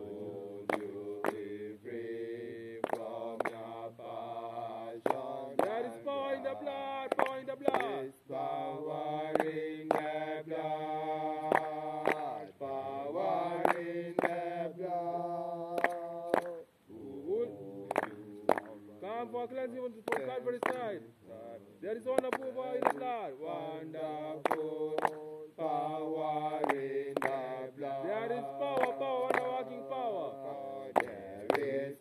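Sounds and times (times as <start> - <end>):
voices chanting together: 0.0 - 32.0.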